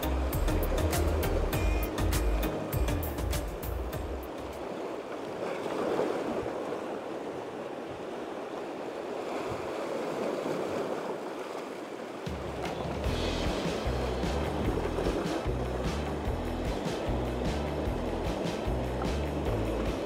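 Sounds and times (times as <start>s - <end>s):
sea surf splashing against rocks: 0.0s - 20.0s.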